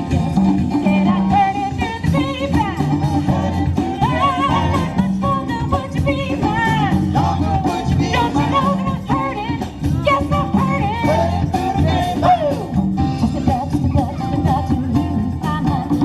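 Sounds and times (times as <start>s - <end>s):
band playing a steady beat: 0.0s - 16.0s.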